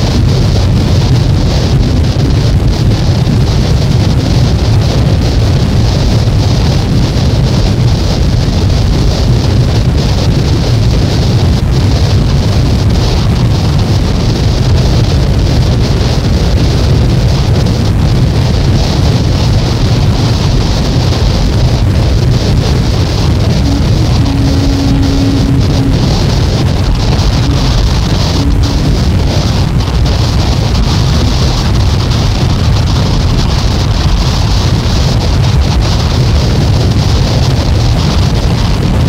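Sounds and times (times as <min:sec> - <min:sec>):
low hum tone: 0:00.0 - 0:36.5
dense wall of noise: 0:00.0 - 0:39.0.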